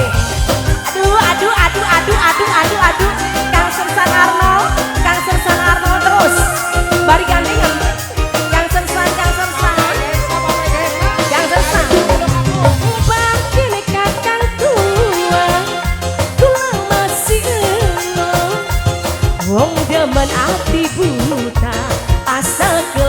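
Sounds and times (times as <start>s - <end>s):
bending melodic lead line: 0.0s - 23.0s
dense drum beat: 0.0s - 23.0s.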